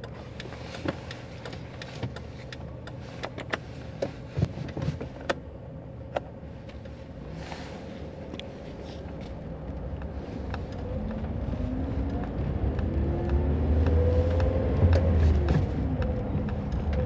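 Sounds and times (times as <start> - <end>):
car engine and road hum: 0.0 - 17.0.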